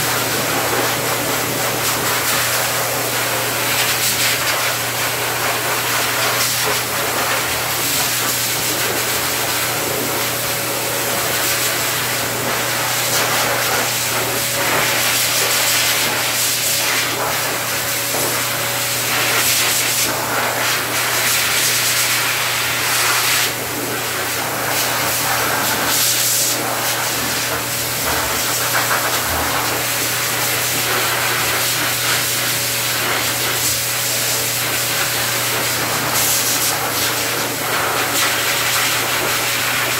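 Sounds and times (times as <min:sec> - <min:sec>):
pet blow dryer rushing air: 0:00.0 - 0:39.9.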